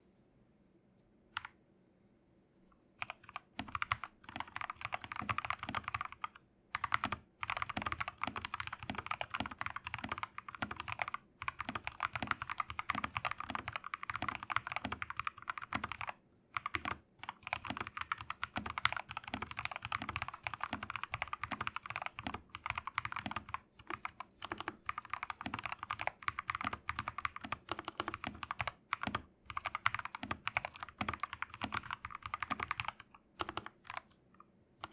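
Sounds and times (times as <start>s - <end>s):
mechanical keyboard typing: 3.0s - 34.2s.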